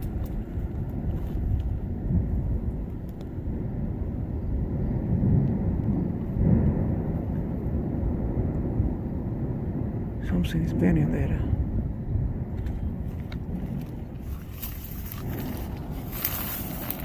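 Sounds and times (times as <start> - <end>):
volcano rumbling: 0.0 - 17.0.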